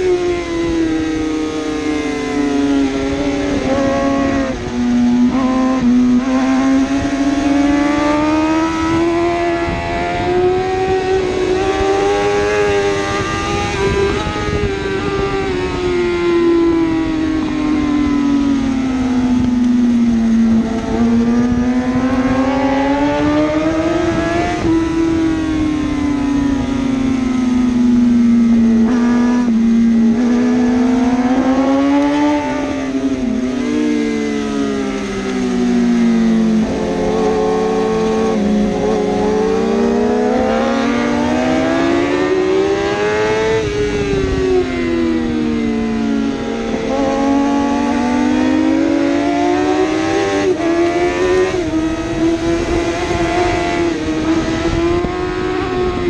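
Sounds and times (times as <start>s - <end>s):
motorcycle engines running hard: 0.0s - 56.0s.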